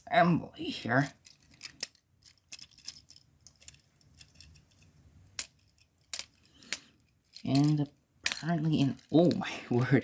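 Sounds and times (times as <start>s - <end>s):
plastic toy parts clicking: 1.1s - 9.4s.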